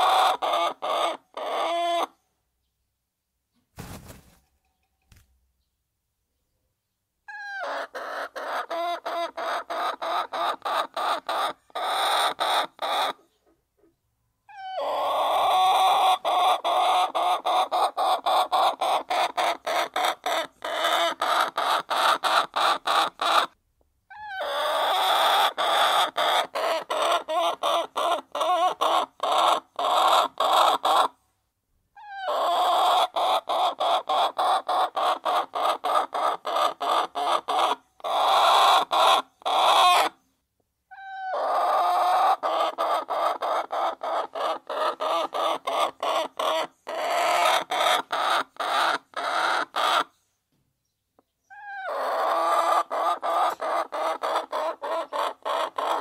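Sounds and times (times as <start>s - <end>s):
hens clucking: 0.0s - 2.1s, 7.3s - 23.6s, 24.3s - 31.2s, 32.1s - 40.2s, 41.0s - 50.1s, 51.6s - 56.0s.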